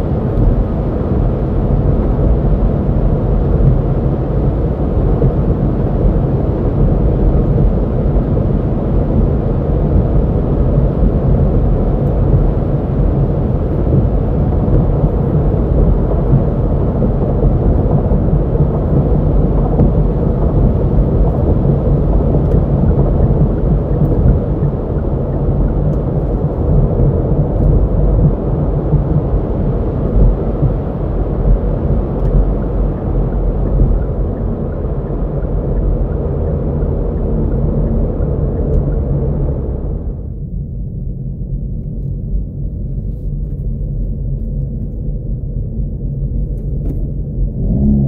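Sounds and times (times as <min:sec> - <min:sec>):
road noise: 0:00.0 - 0:40.3, 0:42.8 - 0:48.0
car engine low drone: 0:00.0 - 0:48.0.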